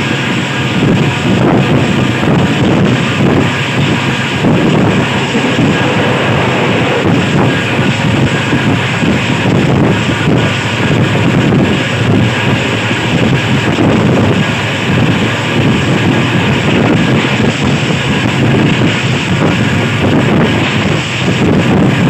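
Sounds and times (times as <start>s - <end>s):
train rumbling on track: 0.0s - 22.0s
wind rushing over microphone: 0.0s - 22.0s.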